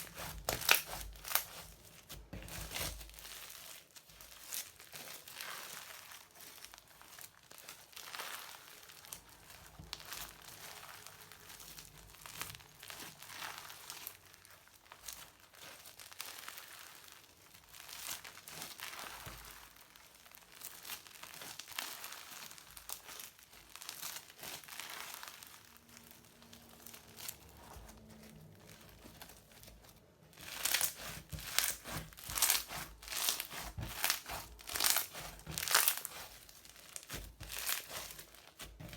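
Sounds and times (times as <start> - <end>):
crunchy slime crackling: 0.0 - 38.9.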